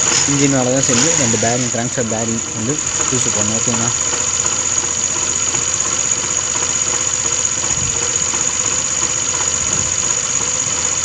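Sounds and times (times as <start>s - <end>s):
high engine whine: 0.0s - 11.0s
rapid engine knocking: 0.0s - 11.0s
scooter engine idling: 0.0s - 11.0s.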